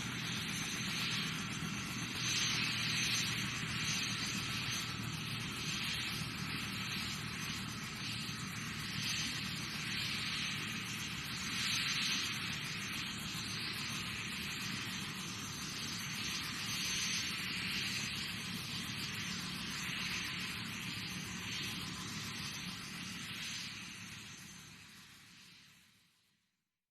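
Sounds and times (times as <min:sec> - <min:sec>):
helicopter turbine hiss: 0:00.0 - 0:25.9.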